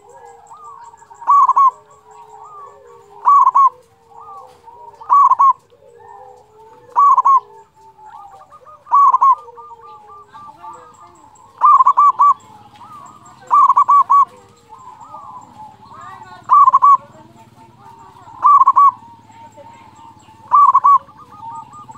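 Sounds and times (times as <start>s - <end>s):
dove cooing: 0.0s - 21.9s
faint bird calls: 0.0s - 21.9s.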